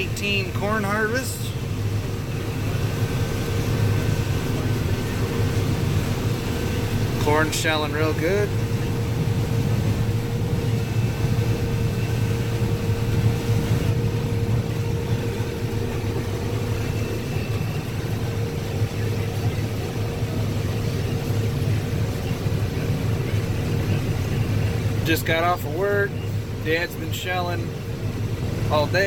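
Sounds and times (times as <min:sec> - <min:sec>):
combine harvester engine drone: 0:00.0 - 0:29.0
steady machine whine: 0:00.0 - 0:29.0.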